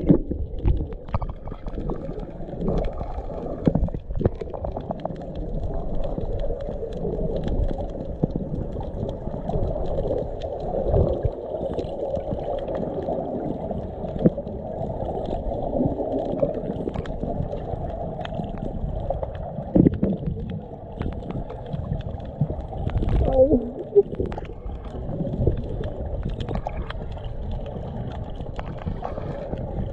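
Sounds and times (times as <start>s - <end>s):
muffled underwater rushing: 0.0s - 29.9s.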